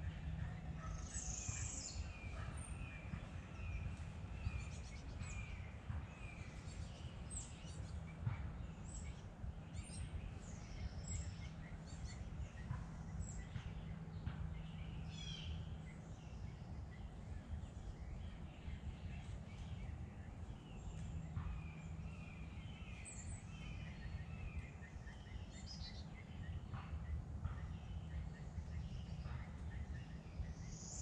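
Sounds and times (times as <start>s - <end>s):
birds chirping and singing: 0.0s - 31.0s
low background rumble: 0.0s - 31.0s.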